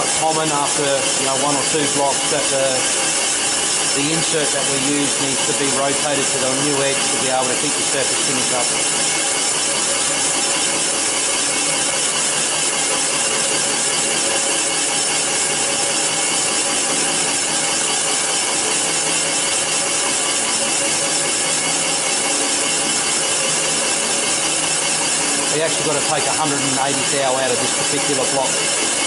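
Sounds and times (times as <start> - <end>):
boring machine grinding iron: 0.0 - 29.0.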